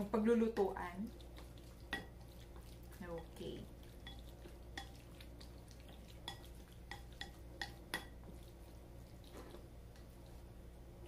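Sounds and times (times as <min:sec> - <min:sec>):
chopsticks stirring meat in bowl: 0:00.0 - 0:10.5.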